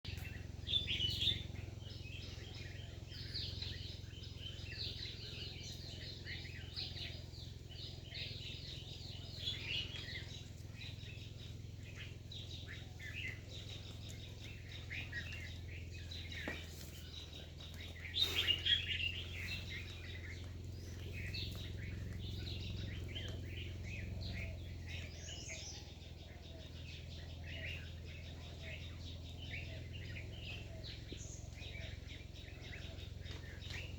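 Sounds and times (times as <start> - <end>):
birds chirping: 0.0 - 33.9
low steady hum: 0.1 - 33.9.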